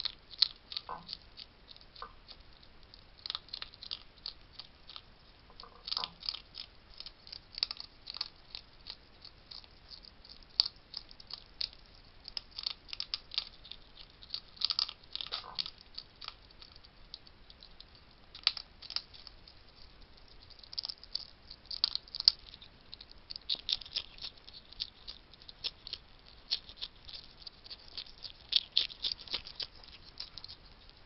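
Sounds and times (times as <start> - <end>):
hedgehog crunching dry food: 0.0 - 31.0.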